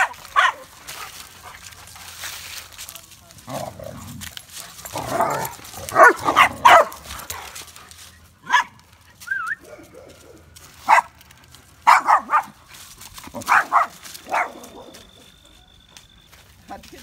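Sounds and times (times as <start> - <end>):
dogs barking: 0.0 - 2.0, 3.6 - 7.7, 8.4 - 16.0.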